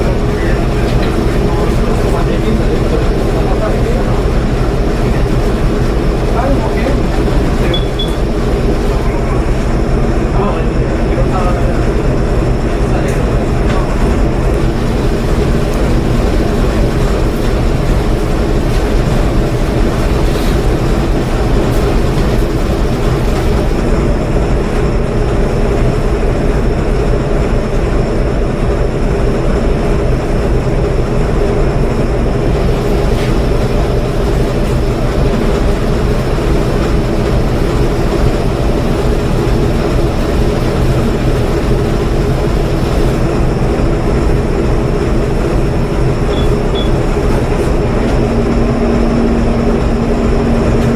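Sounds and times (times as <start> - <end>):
diesel machinery drone: 0.0 - 50.9
steady hum: 0.0 - 50.9.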